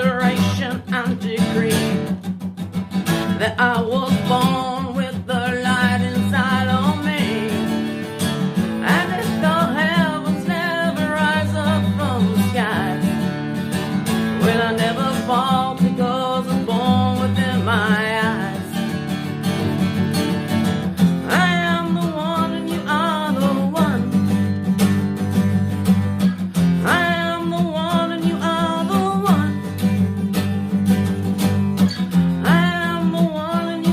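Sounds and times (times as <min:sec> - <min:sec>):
strummed acoustic guitar: 0:00.0 - 0:33.9.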